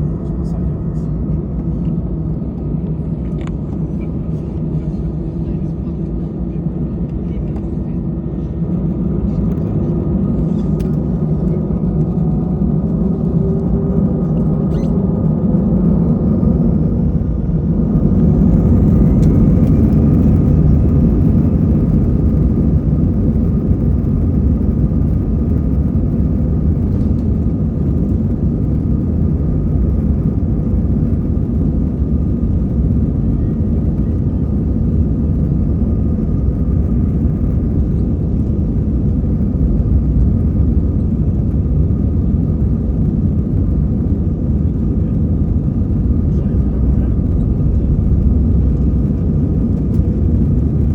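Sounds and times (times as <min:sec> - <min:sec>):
faint steady engine tones: 0:00.0 - 0:50.9
jet engines rumbling in cabin: 0:00.0 - 0:50.9.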